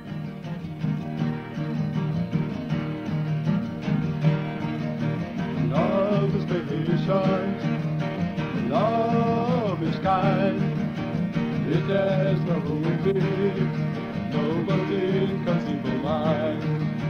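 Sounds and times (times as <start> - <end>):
acoustic guitar strumming: 0.0 - 17.0
higher guitar melody line: 0.0 - 17.0.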